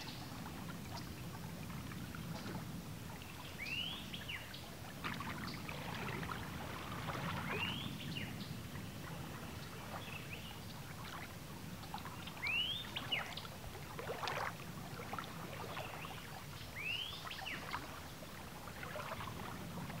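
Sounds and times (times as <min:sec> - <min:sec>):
small waves lapping on shore: 0:00.0 - 0:20.0.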